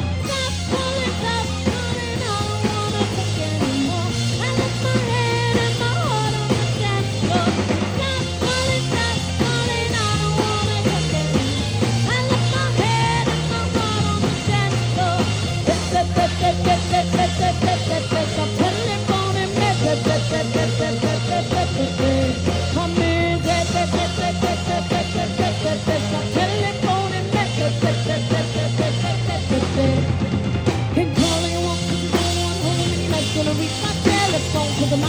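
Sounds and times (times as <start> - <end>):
bass guitar: 0.0 - 35.0
drums playing fast beat: 0.0 - 35.0
electric guitar: 0.0 - 35.0.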